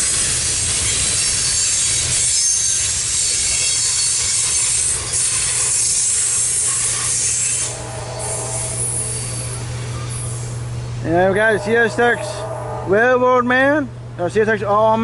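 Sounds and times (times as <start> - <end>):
freight train cars rolling past: 0.0 - 14.8.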